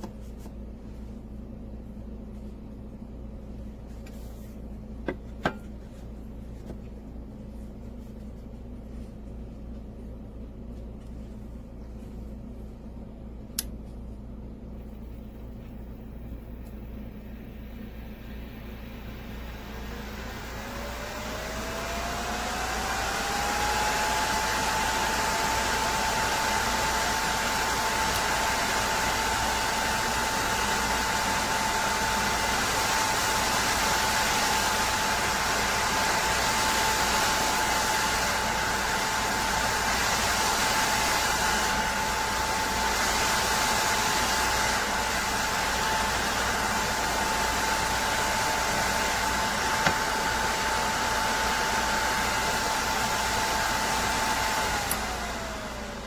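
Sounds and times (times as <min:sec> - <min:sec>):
electric fan whine: 0:00.0 - 0:56.0.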